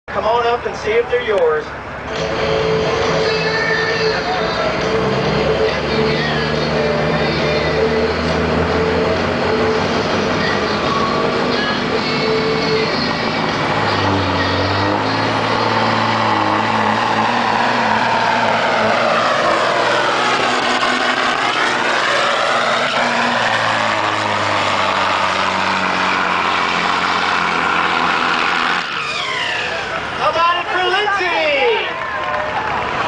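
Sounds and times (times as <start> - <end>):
truck diesel engine under load: 0.1 - 33.0.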